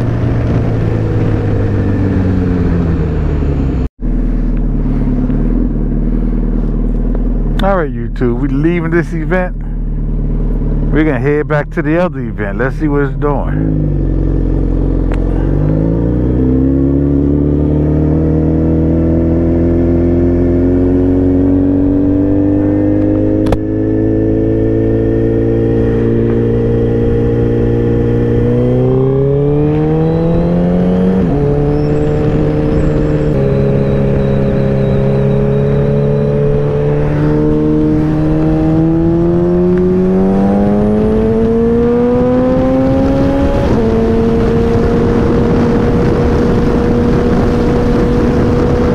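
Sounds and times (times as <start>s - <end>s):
motorcycle engine revving through gears: 0.0s - 7.7s, 13.4s - 48.9s.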